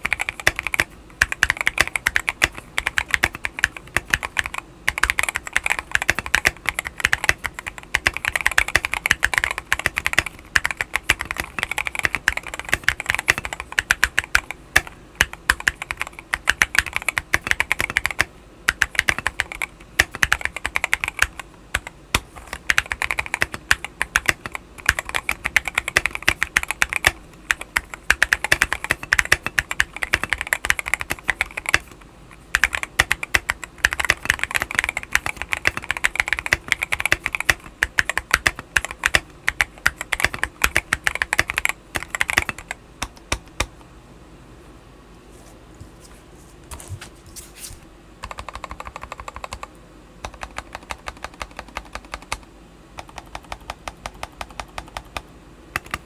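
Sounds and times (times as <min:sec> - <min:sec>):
fast mechanical keyboard typing: 0:00.0 - 0:43.7, 0:48.2 - 0:56.0.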